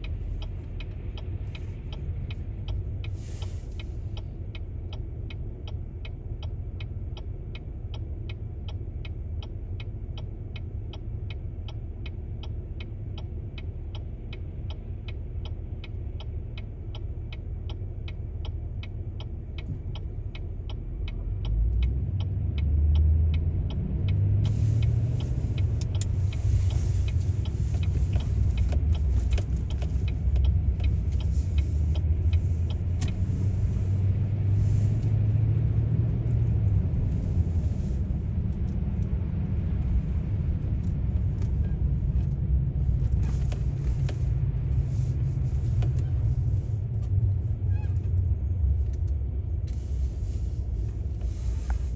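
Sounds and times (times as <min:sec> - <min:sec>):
engine and road rumble: 0:00.0 - 0:51.9
turn signal ticking: 0:00.0 - 0:51.9.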